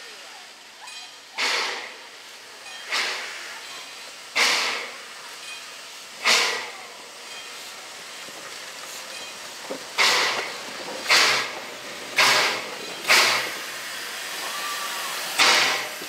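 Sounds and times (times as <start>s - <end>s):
steady low steam hiss: 0.0s - 16.0s
steam locomotive chuffs: 0.0s - 16.0s.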